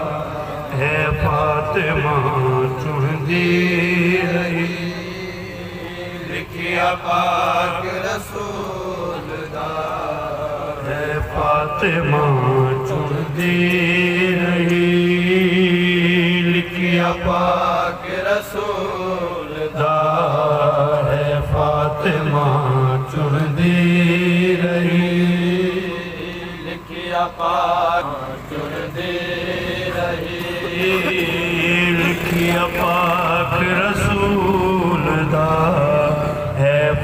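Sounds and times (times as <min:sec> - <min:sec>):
man chanting into a microphone: 0:00.0 - 0:27.0, 0:29.6 - 0:37.0.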